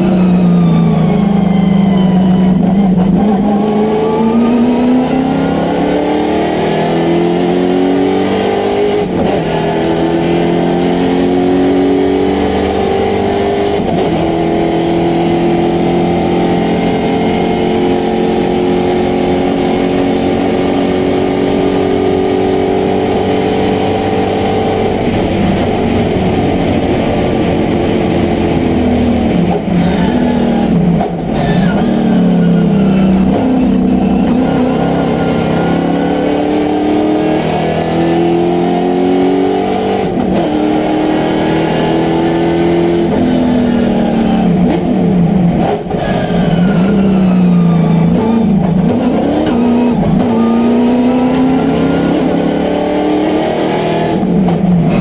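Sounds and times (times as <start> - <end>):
racing engine accelerating: 0.0 - 55.0.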